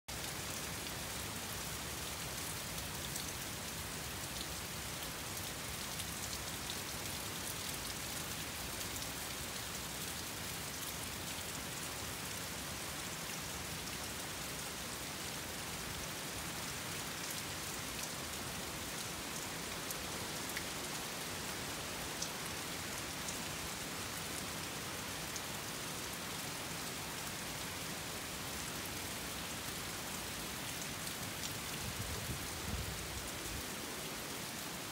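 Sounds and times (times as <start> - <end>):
rain hissing on surfaces: 0.1 - 34.9.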